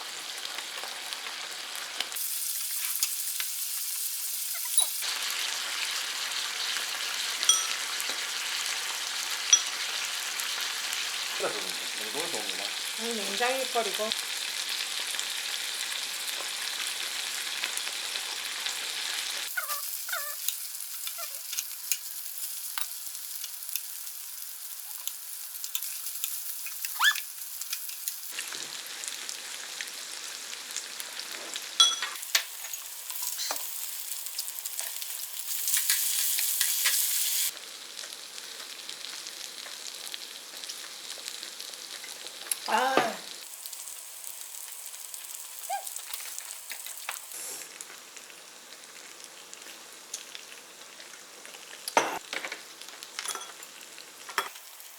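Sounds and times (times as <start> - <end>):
food sizzling in a hot pan: 0.0 - 54.9.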